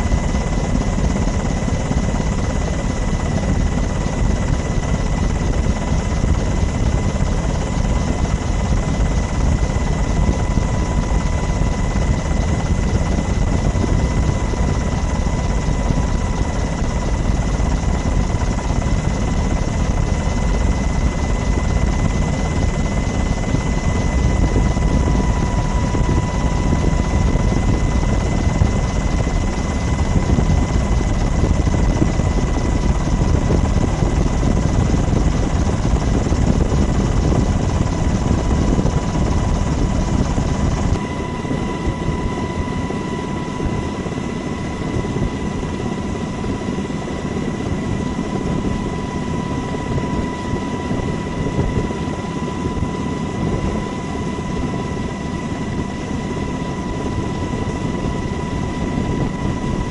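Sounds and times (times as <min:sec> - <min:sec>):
helicopter running: 0:00.0 - 0:59.9.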